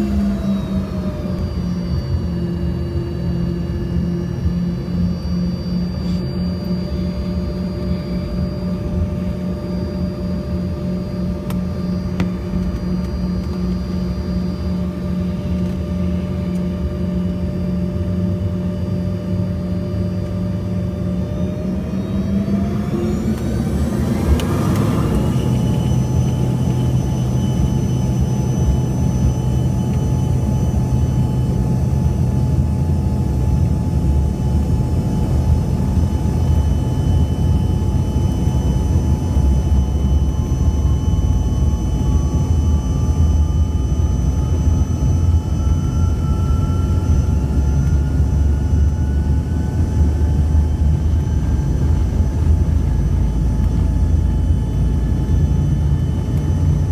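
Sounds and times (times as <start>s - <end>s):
jet engine whine rising: 0.0s - 56.9s
low jet engine rumble: 0.0s - 56.9s.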